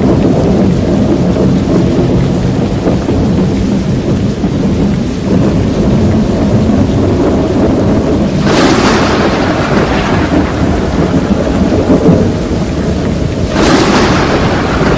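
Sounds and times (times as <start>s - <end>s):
rain: 0.0s - 14.9s
wind battering microphone: 0.0s - 14.9s.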